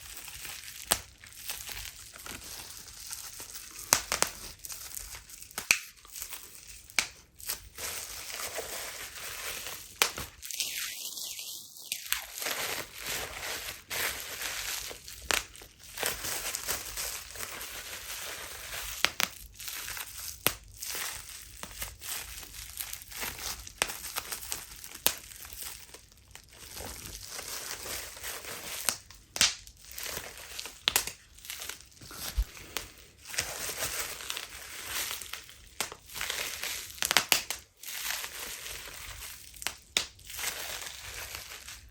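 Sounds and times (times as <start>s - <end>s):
bubble wrap crinkling and popping: 0.0s - 41.9s.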